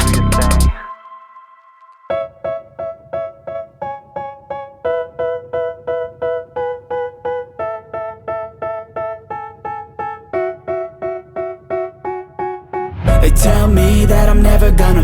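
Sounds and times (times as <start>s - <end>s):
keyboard playing repeated chords: 0.0s - 15.0s.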